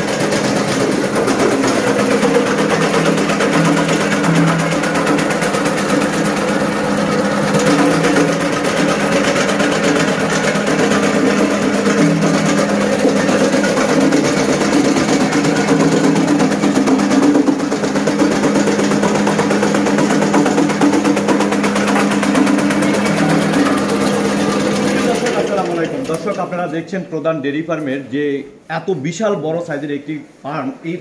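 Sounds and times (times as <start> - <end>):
motor humming: 0.0 - 26.5
small machine rattling: 0.0 - 26.8.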